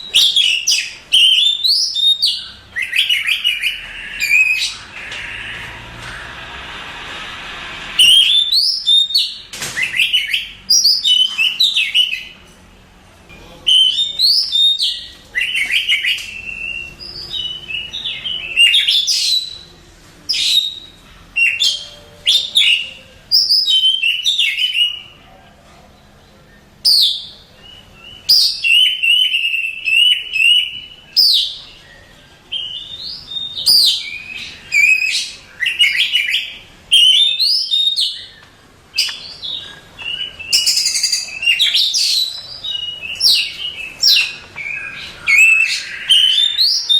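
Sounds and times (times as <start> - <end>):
songbird whistling and chattering: 0.0 - 5.7, 8.0 - 12.4, 13.6 - 19.7, 20.3 - 25.2, 26.6 - 46.9.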